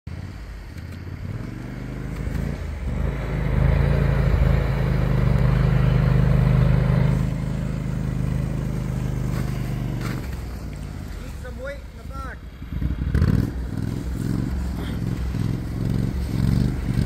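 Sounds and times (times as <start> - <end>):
vehicle engine running: 0.1 - 17.0.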